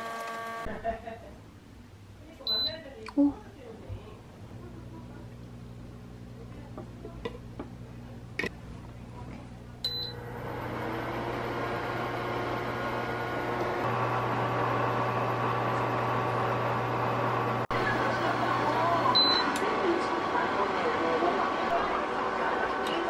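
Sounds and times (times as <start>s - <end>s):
cooktop low hum: 0.0s - 23.0s.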